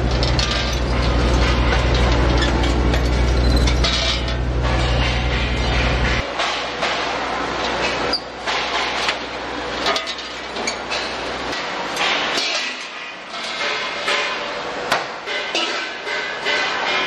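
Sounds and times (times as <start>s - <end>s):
machinery clattering: 0.0s - 17.0s
metallic clanks and knocks: 0.0s - 17.0s.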